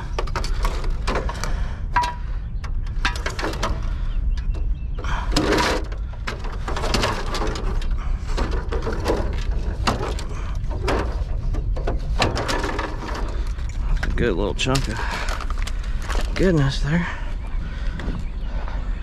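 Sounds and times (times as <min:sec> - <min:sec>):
clatter of tools and parts: 0:00.0 - 0:16.7
steady low rumble: 0:00.0 - 0:19.0.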